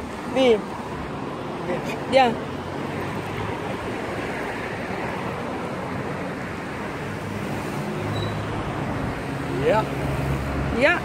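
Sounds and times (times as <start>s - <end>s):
road traffic hiss: 0.0s - 11.0s.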